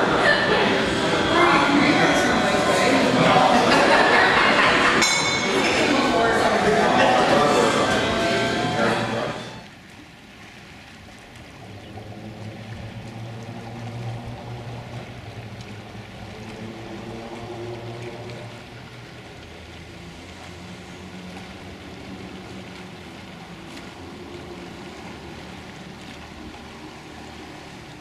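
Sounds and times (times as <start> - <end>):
boat engine humming: 0.0 - 28.0
water washing past hull: 0.0 - 28.0.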